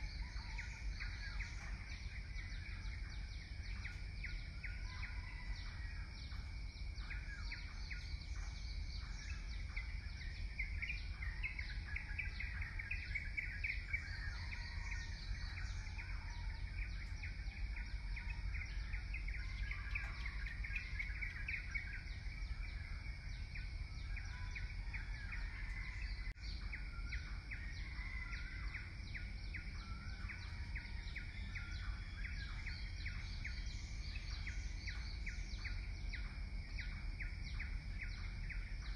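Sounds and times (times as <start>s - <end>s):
birds chirping: 0.0s - 38.9s
low rumble of field ambience: 0.0s - 38.9s.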